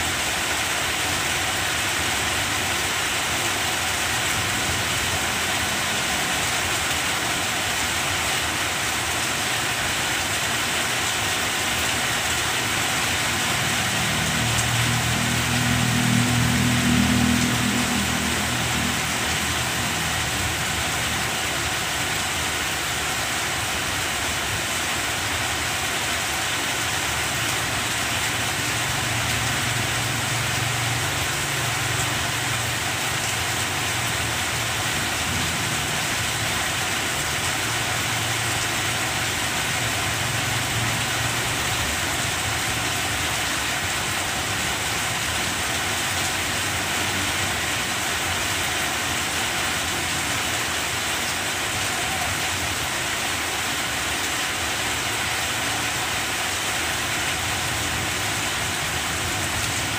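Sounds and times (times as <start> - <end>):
heavy rain on leaves: 0.0 - 59.9.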